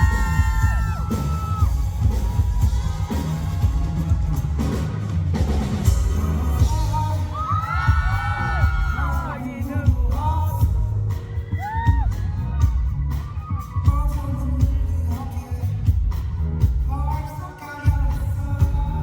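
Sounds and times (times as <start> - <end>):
crowd screaming and cheering: 0.0 - 19.0
live rock band playing loudly: 0.0 - 19.0.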